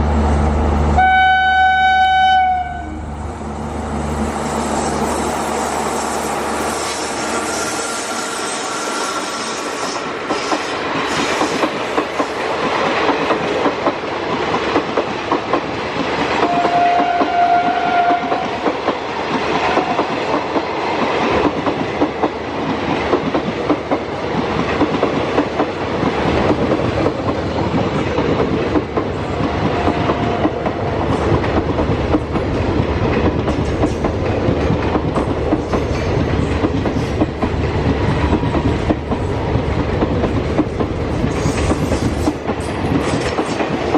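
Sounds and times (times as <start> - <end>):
train wheels clattering: 4.3 - 43.9.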